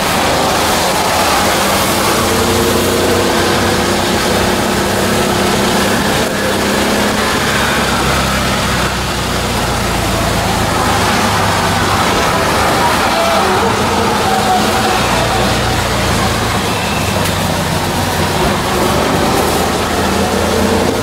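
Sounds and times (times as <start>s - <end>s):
auto-rickshaw engine running: 0.0s - 21.0s
road and wind noise: 0.0s - 21.0s.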